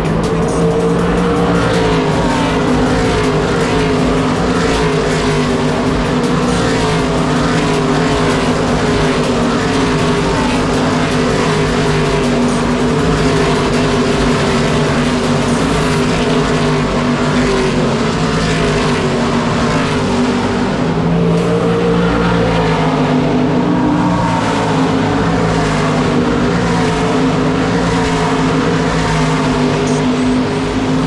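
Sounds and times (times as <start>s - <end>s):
racing truck engines droning: 0.0s - 31.0s.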